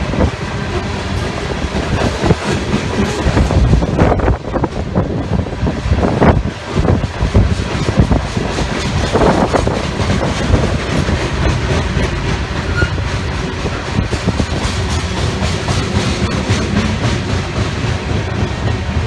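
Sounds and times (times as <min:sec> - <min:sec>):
freight train rumble: 0:00.0 - 0:19.0
train wheels clacking over rail joints: 0:00.0 - 0:19.0.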